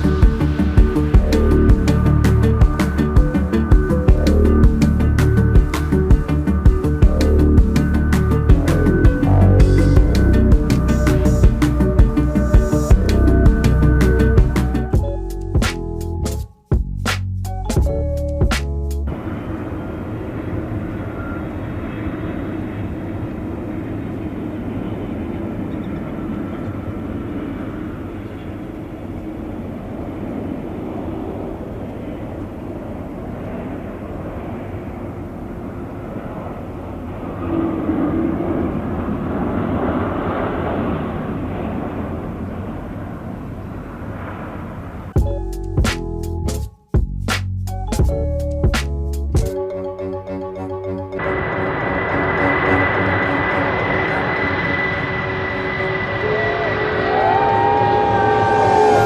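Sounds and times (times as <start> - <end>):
airplane engines droning: 0.0 - 16.4, 17.8 - 46.4, 49.6 - 59.0.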